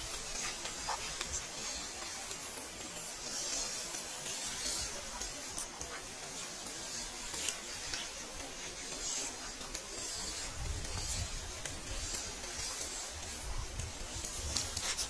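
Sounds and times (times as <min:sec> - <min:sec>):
creek water hissing: 0:00.0 - 0:15.0.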